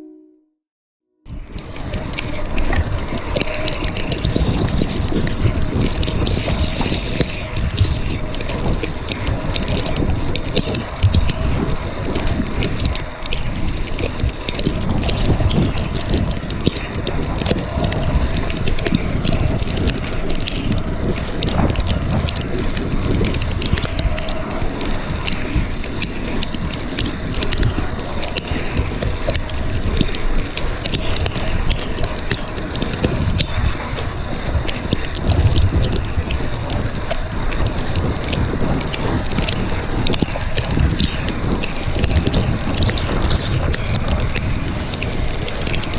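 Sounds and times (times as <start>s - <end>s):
bike tyre rumble: 1.3s - 45.9s
wind buffeting microphone: 1.3s - 45.9s
bike clicks and rattles: 1.4s - 45.9s.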